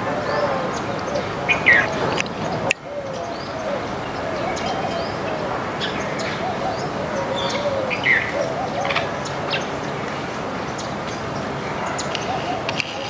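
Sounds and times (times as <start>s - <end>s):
low wavering bird call: 0.0s - 10.0s, 11.8s - 13.0s
small birds chirping: 0.0s - 13.0s.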